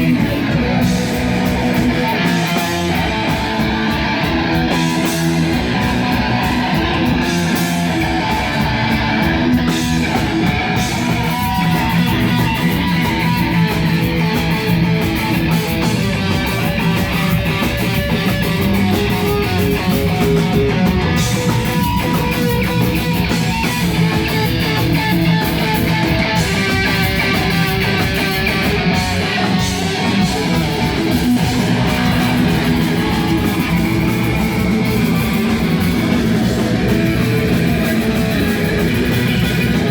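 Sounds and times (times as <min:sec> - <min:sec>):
distorted electric guitar: 0:00.0 - 0:39.9
live rock band playing: 0:00.0 - 0:39.9.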